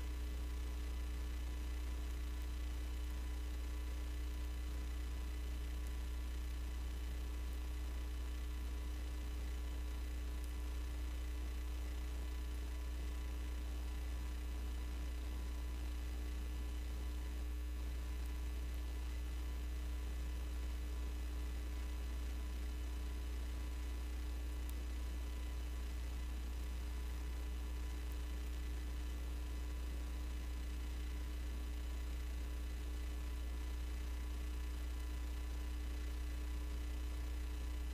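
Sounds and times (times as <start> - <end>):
low mains hum: 0.0 - 37.9.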